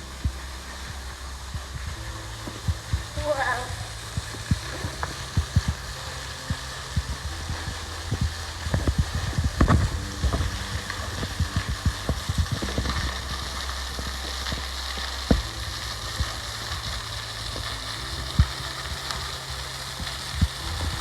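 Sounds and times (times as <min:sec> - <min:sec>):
waterfall hissing: 0:00.0 - 0:21.0.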